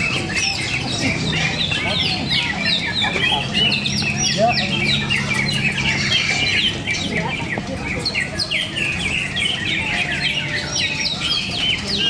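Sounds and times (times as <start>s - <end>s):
birds singing whistled notes: 0.0s - 12.0s.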